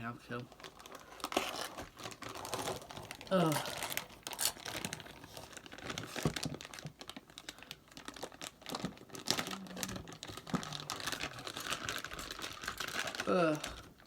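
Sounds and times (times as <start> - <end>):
packaging being handled: 0.5 - 14.0.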